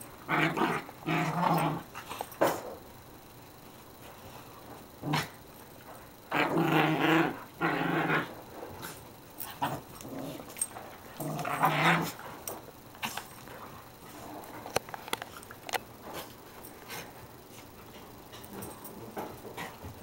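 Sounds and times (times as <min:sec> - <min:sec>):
dogs growling in play: 0:00.0 - 0:03.1, 0:04.2 - 0:20.0.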